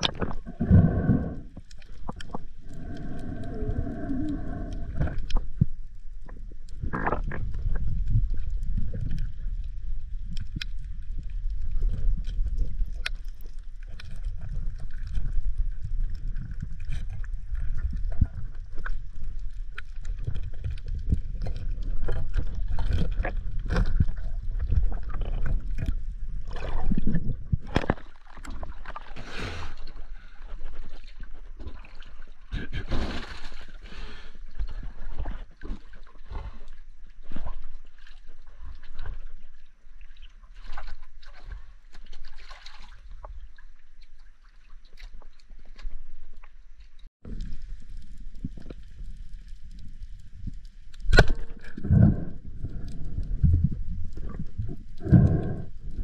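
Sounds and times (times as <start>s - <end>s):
water churning and gurgling: 0.0s - 56.0s.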